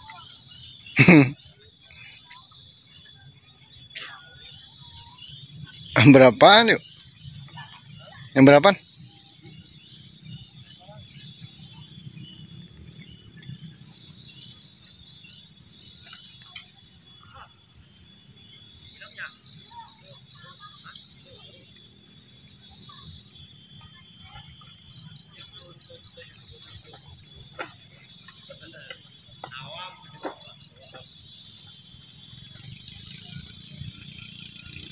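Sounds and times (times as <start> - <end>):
insects chirping in trills: 0.0 - 34.9.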